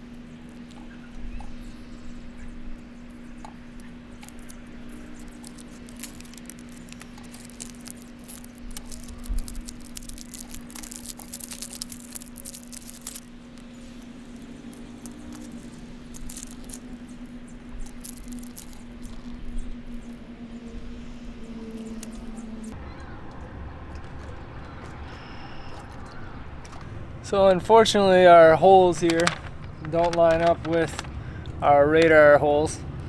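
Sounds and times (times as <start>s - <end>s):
cable shielding crinkling and crackling: 0.0s - 32.7s
steady low hum: 0.0s - 33.0s.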